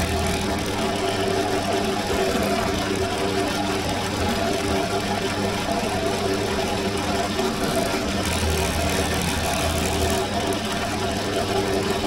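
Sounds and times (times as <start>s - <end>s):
drill press motor humming: 0.0s - 12.0s.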